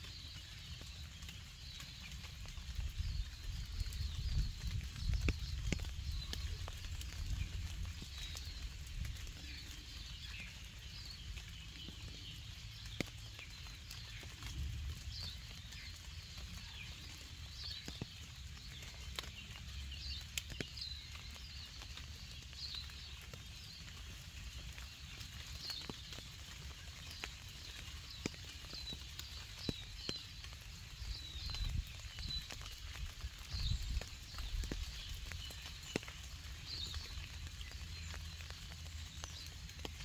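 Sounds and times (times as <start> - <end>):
raindrops dripping: 0.0 - 40.0.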